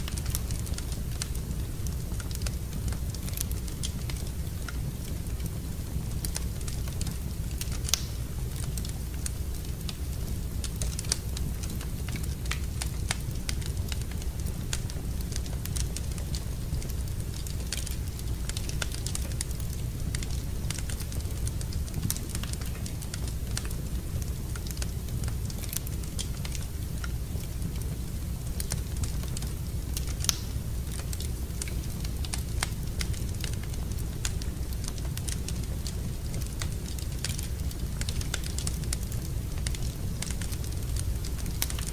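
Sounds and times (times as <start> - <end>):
fire crackling: 0.0 - 41.9.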